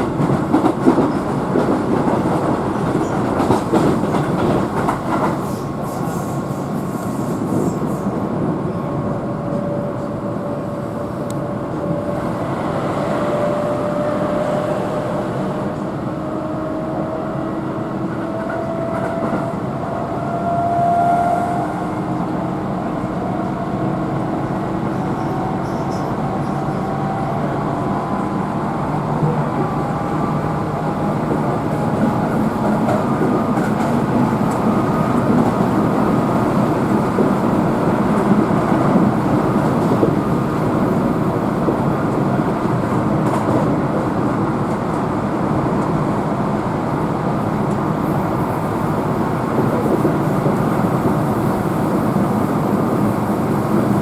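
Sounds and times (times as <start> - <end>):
train rolling rail noise: 0.0 - 54.0.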